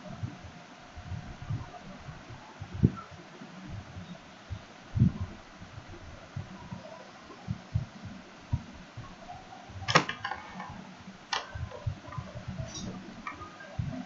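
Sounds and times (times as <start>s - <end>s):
soft low thumps: 0.0s - 9.9s, 10.7s - 14.0s
faint room noise: 0.0s - 14.0s.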